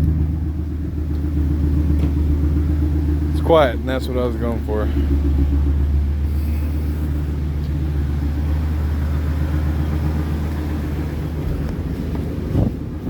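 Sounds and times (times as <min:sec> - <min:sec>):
engine idling low rumble: 0:00.0 - 0:13.0.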